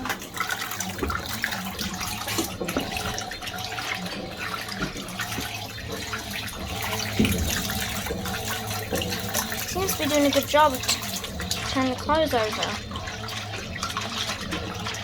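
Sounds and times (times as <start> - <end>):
low motor hum: 0.0 - 15.0
water sloshing and churning: 0.0 - 15.0.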